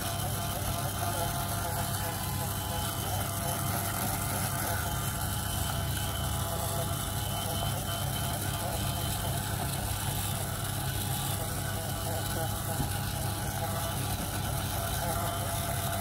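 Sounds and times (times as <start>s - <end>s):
beads churning in tank: 0.0s - 16.0s
small toy motor whirring: 0.0s - 16.0s.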